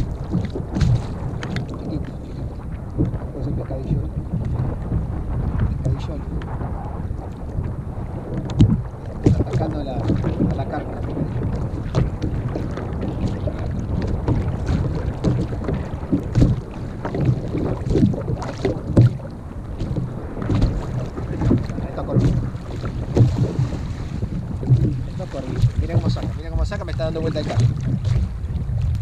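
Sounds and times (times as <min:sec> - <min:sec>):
waves slapping against kayak hull: 0:00.0 - 0:29.0
wind buffeting microphone: 0:00.0 - 0:29.0.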